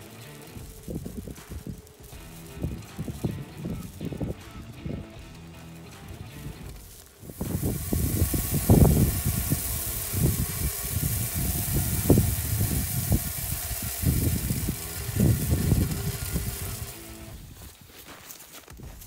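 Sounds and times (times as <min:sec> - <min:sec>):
feeder augers rumbling: 0:00.0 - 0:17.6
grain spilling onto ground: 0:00.0 - 0:17.7.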